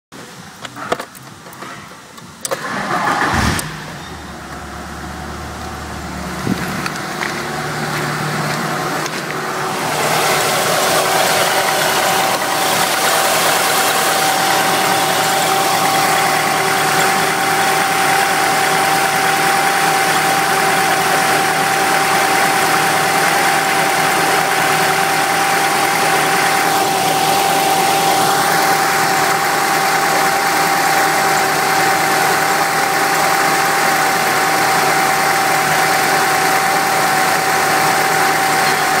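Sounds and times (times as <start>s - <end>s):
car engine cranking: 2.4s - 39.0s
high engine whine: 2.4s - 39.0s
car engine idling: 2.6s - 39.0s.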